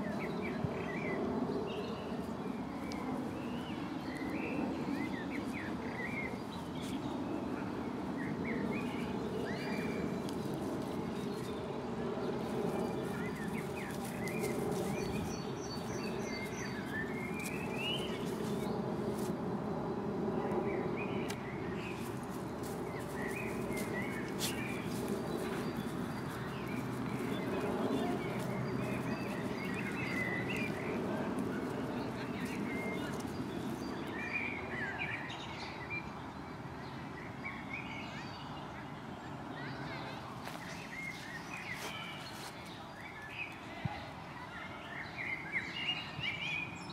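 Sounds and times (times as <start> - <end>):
small birds chirping: 0.0 - 19.4, 20.4 - 35.9, 37.3 - 43.7
low background noise: 0.0 - 46.9.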